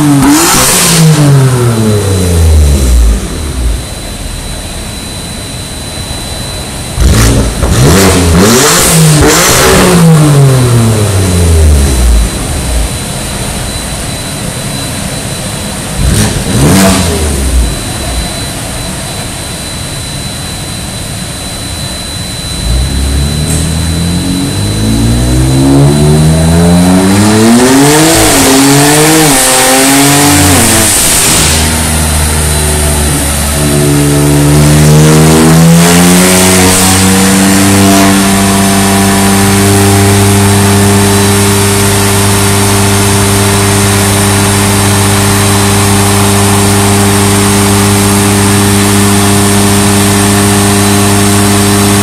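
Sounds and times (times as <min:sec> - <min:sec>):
car engine revving on dynamometer: 0:00.0 - 0:52.0.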